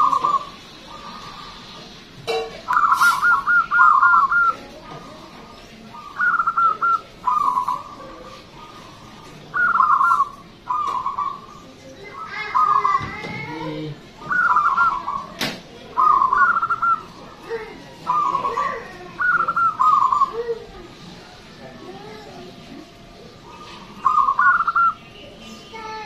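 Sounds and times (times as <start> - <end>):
dove cooing: 0.0 - 13.5, 14.2 - 21.4, 22.1 - 25.1.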